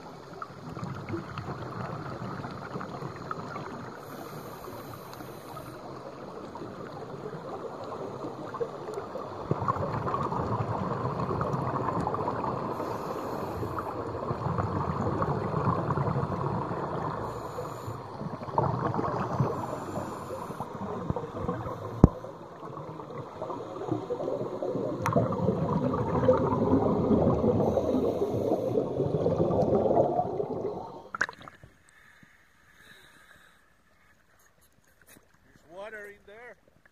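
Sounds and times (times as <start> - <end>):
regulator bubbles gurgling underwater: 0.0 - 31.8.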